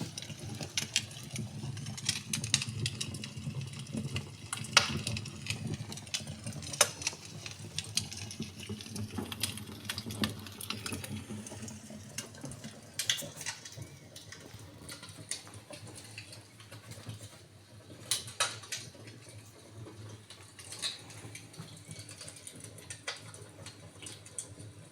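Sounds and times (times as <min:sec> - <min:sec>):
wood fire crackling: 0:00.0 - 0:24.7.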